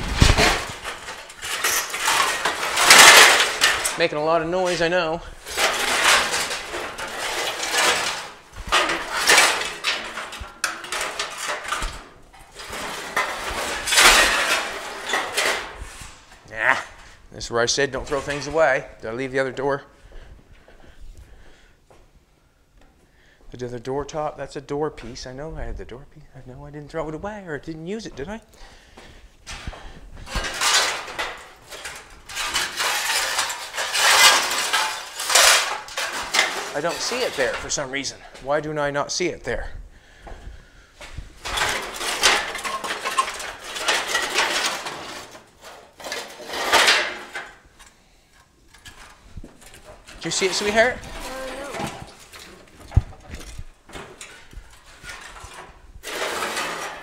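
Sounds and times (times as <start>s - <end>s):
scrap metal clattering and scraping: 0.0s - 19.5s, 28.2s - 57.0s.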